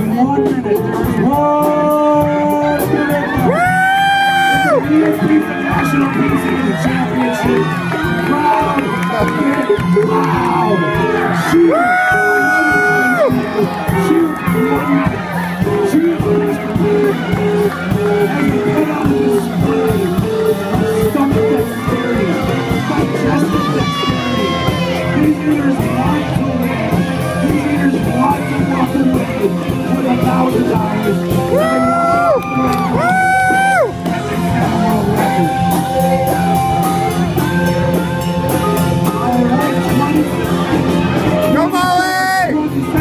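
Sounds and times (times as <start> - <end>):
electric guitar: 0.0 - 41.6
rock band playing live: 0.0 - 43.0
steady drum beat: 0.0 - 43.0.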